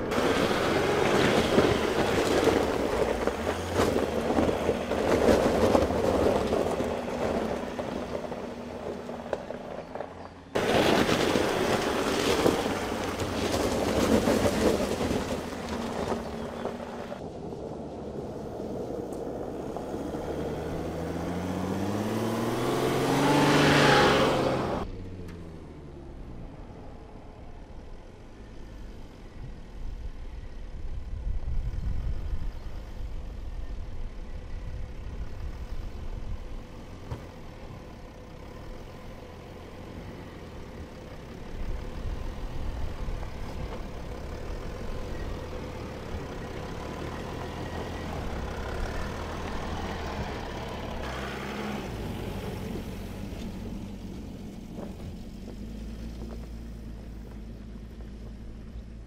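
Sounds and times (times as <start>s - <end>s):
diesel engine running at low revs: 0.0s - 59.0s.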